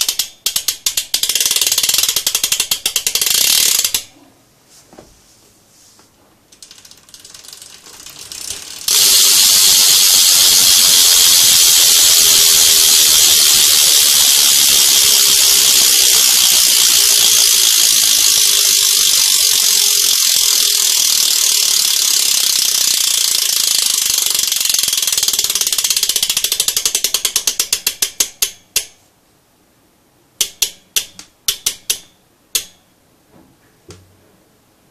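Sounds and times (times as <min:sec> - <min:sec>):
bicycle hub ratcheting clicks: 0:00.0 - 0:04.1, 0:06.5 - 0:29.0, 0:30.4 - 0:32.8.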